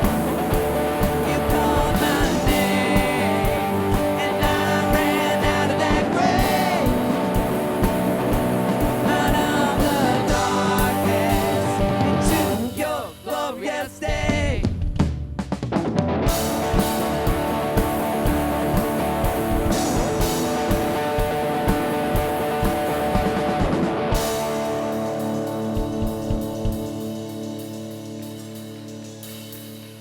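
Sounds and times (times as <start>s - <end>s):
live worship band music: 0.0s - 15.0s, 16.0s - 30.0s.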